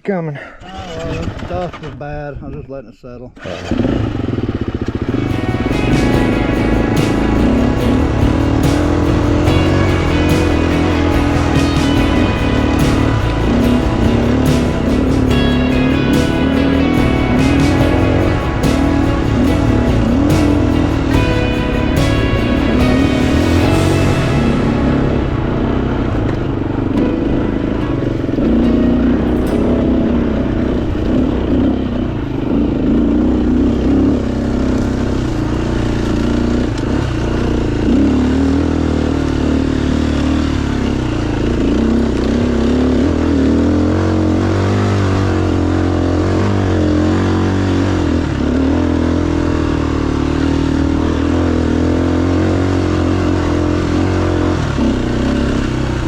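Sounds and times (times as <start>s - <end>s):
dirt bike engine revving: 3.4s - 56.0s.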